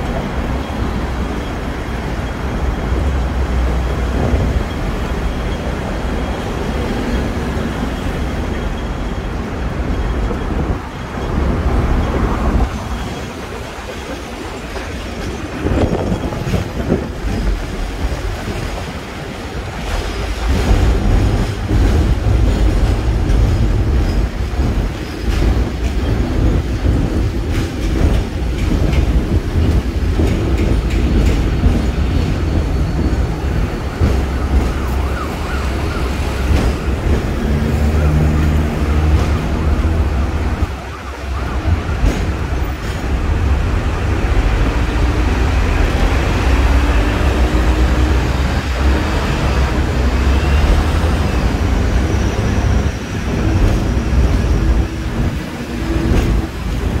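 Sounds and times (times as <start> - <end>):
tram motors and wheels rumbling: 0.0 - 57.0
wheels clacking over rail joints: 0.0 - 57.0.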